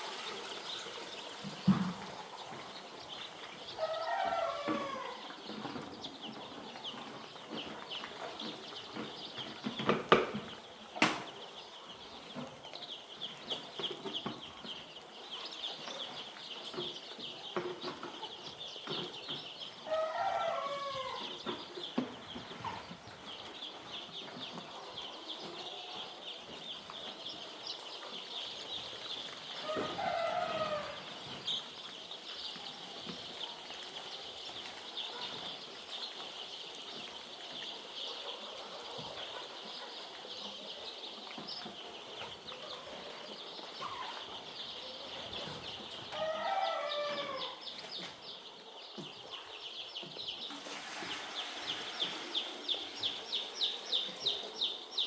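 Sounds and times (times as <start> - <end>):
chicks cheeping: 0.0 - 55.0.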